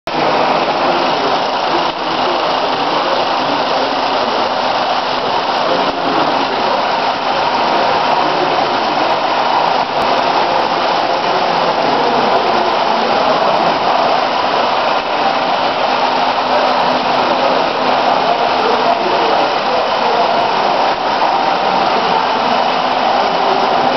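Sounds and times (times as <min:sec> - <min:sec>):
bottling machinery din: 0:00.1 - 0:23.9.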